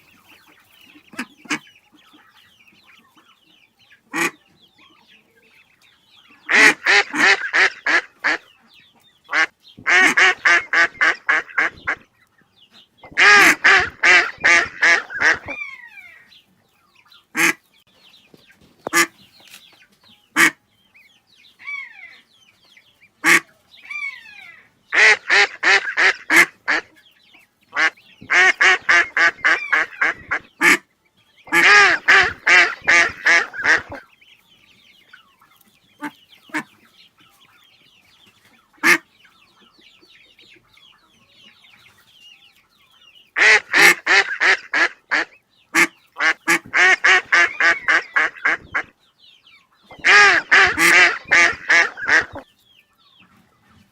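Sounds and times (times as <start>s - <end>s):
ducks quacking: 0.0s - 16.4s, 17.0s - 17.8s, 18.8s - 19.3s, 20.3s - 20.7s, 23.1s - 42.0s, 42.8s - 52.5s
high chirping calls: 0.0s - 53.5s.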